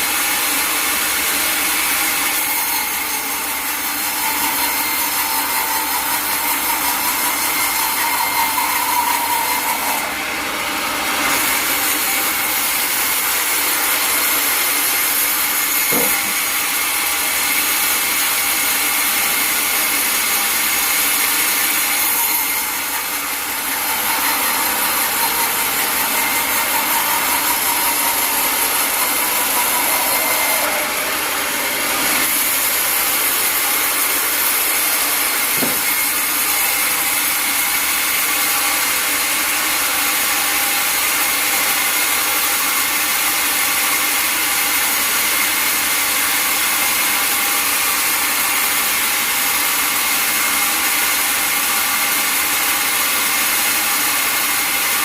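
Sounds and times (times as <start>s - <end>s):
sawmill saw cutting log: 0.0s - 55.0s.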